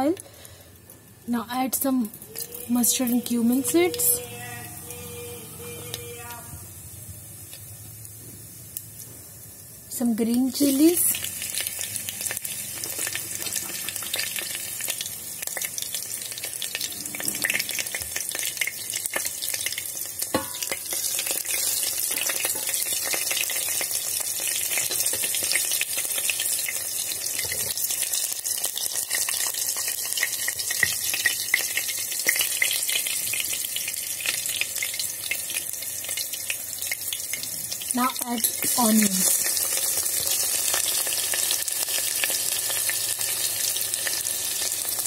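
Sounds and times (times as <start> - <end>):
chilies sizzling in hot oil: 0.0 - 45.0.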